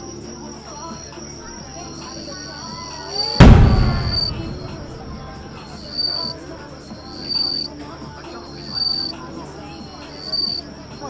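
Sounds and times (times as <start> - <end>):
insect buzzy trill: 0.0 - 4.6, 5.2 - 11.0.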